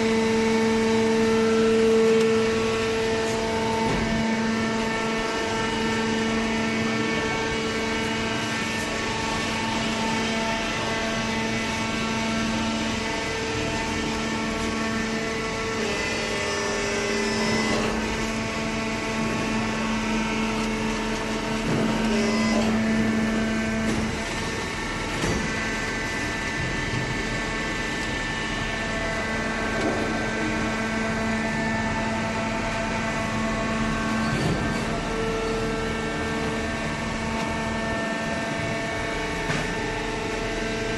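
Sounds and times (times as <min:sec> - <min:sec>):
baler hydraulic pump humming: 0:00.0 - 0:40.9.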